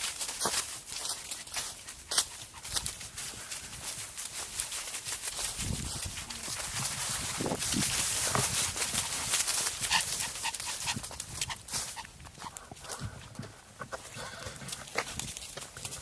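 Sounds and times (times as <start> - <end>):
footsteps on trail: 0.0 - 16.0.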